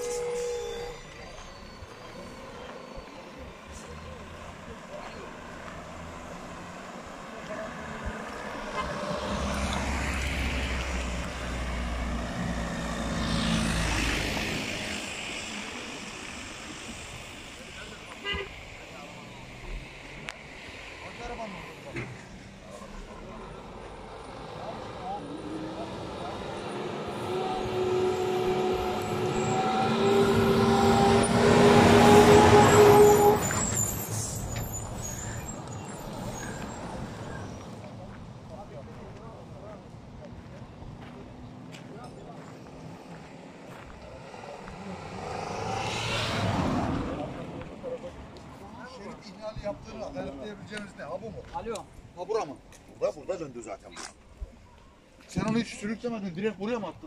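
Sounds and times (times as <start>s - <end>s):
vehicles driving past: 0.0s - 57.0s.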